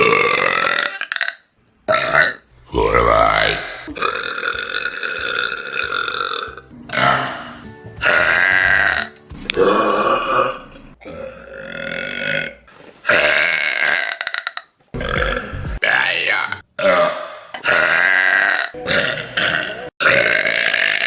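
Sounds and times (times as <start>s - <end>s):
burps: 0.0s - 21.0s.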